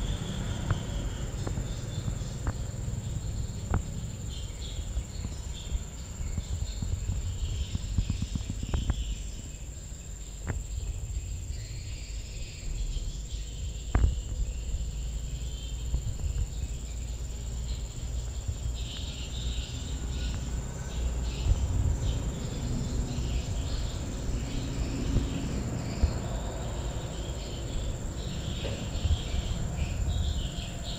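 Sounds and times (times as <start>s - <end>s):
insect chirps: 0.0s - 30.9s
insect drone: 0.0s - 30.9s.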